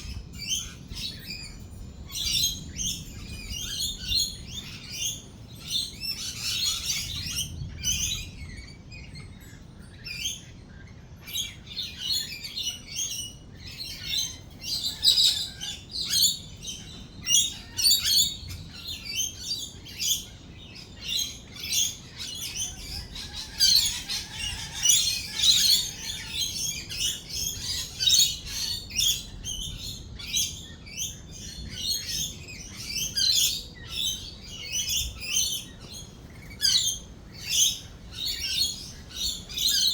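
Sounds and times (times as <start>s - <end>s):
lorikeets chattering and screeching: 0.0s - 39.9s.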